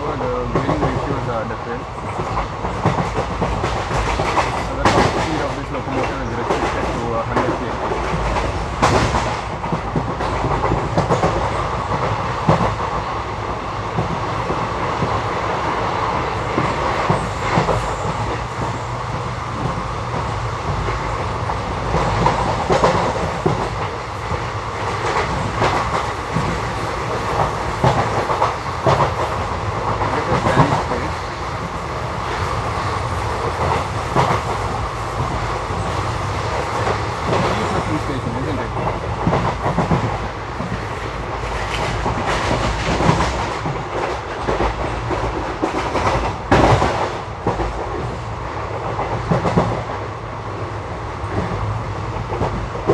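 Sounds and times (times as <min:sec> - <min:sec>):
train rumble and hiss: 0:00.0 - 0:52.9
wheels clickety-clack over rail joints: 0:00.0 - 0:52.9.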